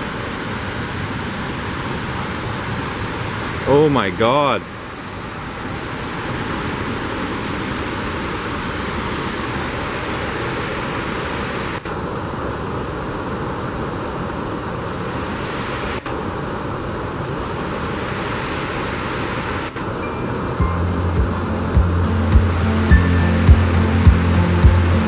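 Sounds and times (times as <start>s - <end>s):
creek and waterfall rushing: 0.0s - 25.0s.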